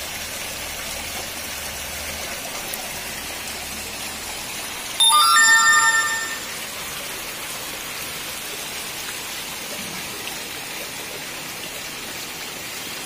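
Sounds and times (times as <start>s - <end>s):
rain on wet hard ground: 0.0s - 5.4s, 6.4s - 13.0s.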